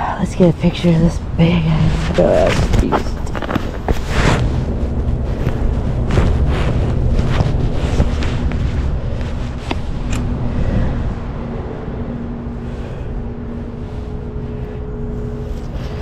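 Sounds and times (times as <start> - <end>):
steady motor hum: 0.0 - 16.0
wind rumble on microphone: 0.0 - 16.0
fabric rubbing microphone: 1.4 - 16.0.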